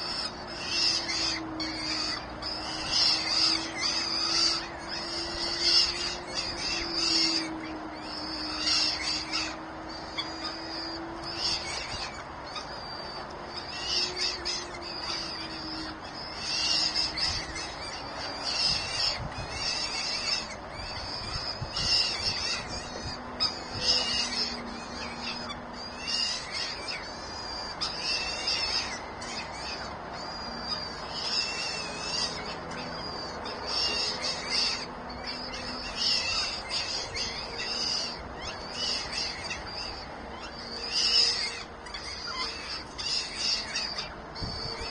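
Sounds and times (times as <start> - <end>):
birds calling harshly: 0.0 - 44.9.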